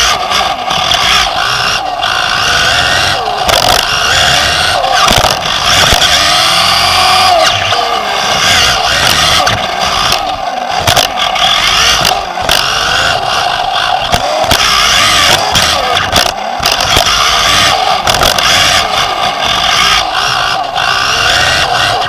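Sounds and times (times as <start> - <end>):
electric motor whine: 0.0 - 22.0
toy car knocking on bumps: 3.1 - 7.7, 8.4 - 22.0.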